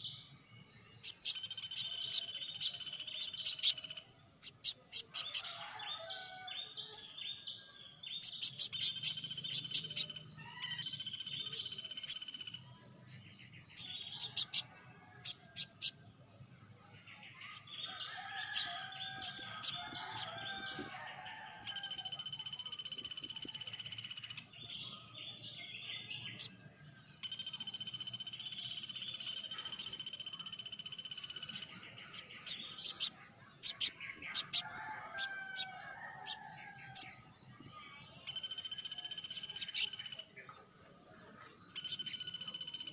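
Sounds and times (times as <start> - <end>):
birds chirping and twittering: 0.0 - 42.9
crickets droning: 0.0 - 42.9.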